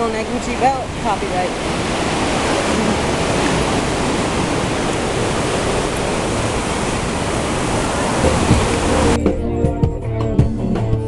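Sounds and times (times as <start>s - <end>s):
ocean surf washing: 0.0s - 9.2s.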